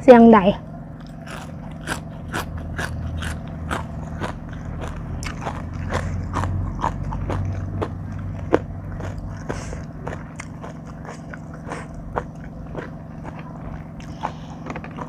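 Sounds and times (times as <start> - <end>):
crunchy bites and chewing: 0.9 - 15.0.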